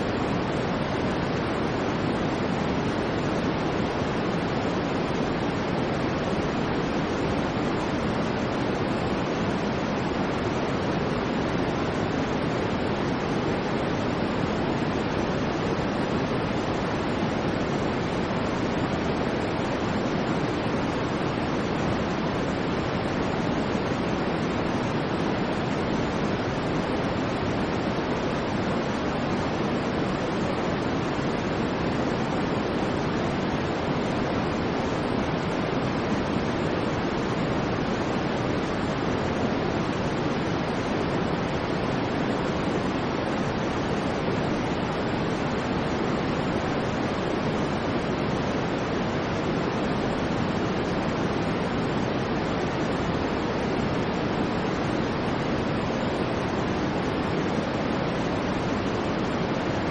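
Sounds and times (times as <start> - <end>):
low synthetic white noise: 0.0 - 59.9.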